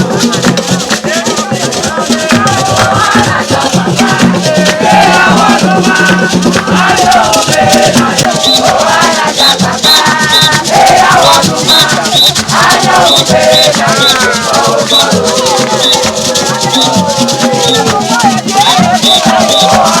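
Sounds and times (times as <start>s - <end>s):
group singing call-and-response: 0.0s - 20.0s
shakers rattling: 0.0s - 20.0s.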